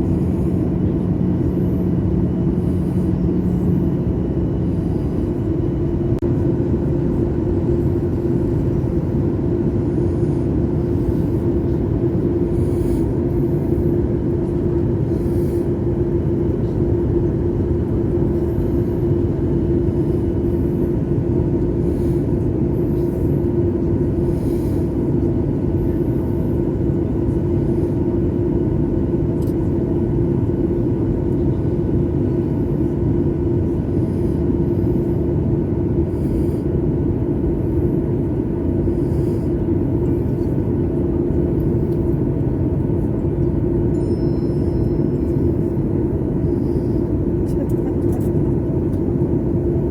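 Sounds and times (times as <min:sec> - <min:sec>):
airliner engine and airflow rumble: 0:00.0 - 0:49.9
steady cabin hum: 0:00.0 - 0:49.9.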